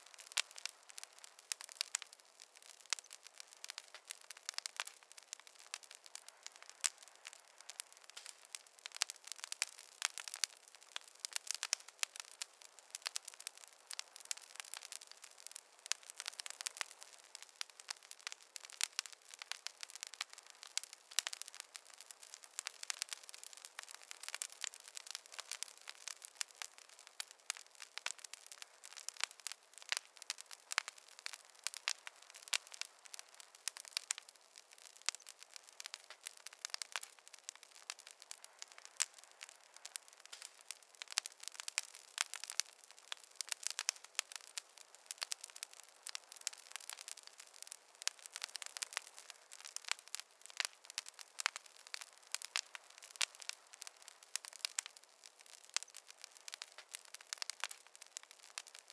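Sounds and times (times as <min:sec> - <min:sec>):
faint hiss: 0:00.0 - 0:58.9
wood fire crackling: 0:00.0 - 0:58.9.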